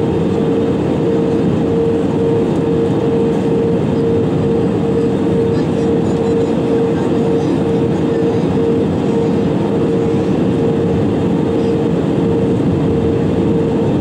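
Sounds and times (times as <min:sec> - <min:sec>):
airliner cabin engine and airflow noise: 0:00.0 - 0:14.0
steady cabin hum: 0:00.0 - 0:14.0.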